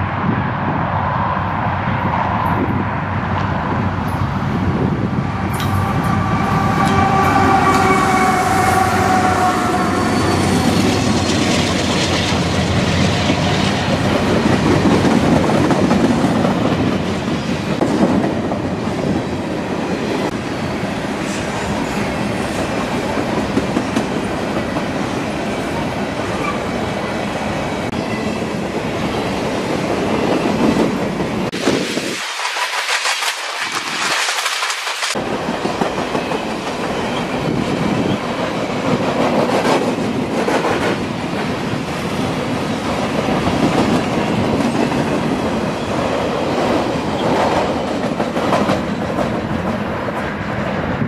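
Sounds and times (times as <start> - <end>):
diesel locomotives passing: 0.0 - 51.0.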